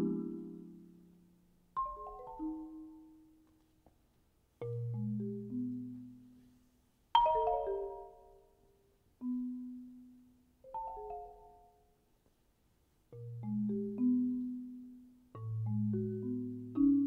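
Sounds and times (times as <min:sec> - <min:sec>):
solo marimba: 0:00.0 - 0:03.4, 0:04.6 - 0:06.6, 0:07.2 - 0:11.9, 0:13.1 - 0:17.0.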